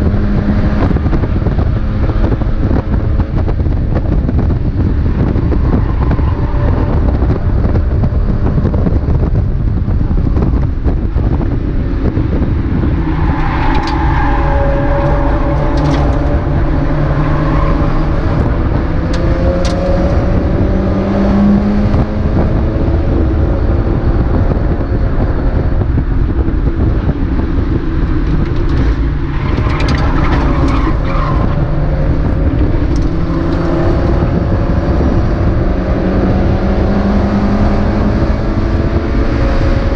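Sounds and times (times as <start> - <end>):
race car engine: 0.0 - 39.9
wind and road rumble: 0.0 - 39.9.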